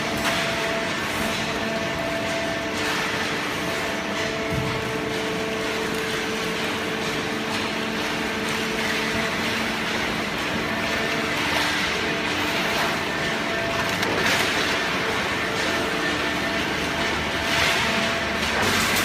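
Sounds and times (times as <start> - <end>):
baler machine hum and whine: 0.0 - 19.0.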